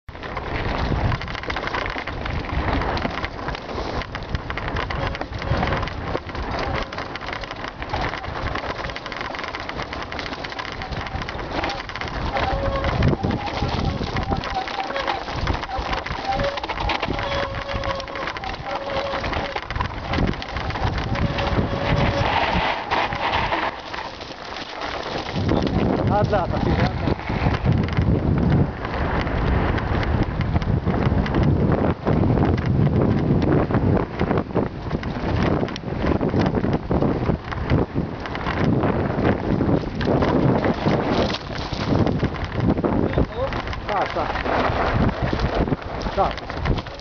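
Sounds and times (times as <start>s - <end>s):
bike tyres crackling over gravel: 0.1s - 47.0s
low bumping rumble: 0.1s - 47.0s.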